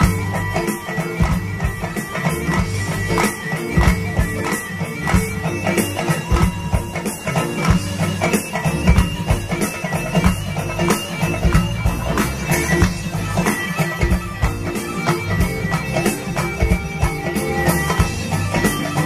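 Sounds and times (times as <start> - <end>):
live band playing pop: 0.0 - 19.0.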